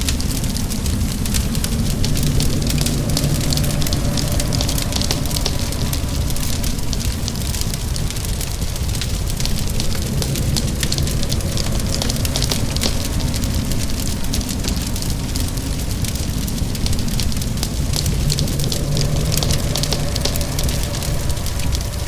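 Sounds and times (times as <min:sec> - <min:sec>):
deep low rumble: 0:00.0 - 0:22.0
steady rain: 0:00.0 - 0:22.0
wood fire crackling and popping: 0:00.0 - 0:22.0.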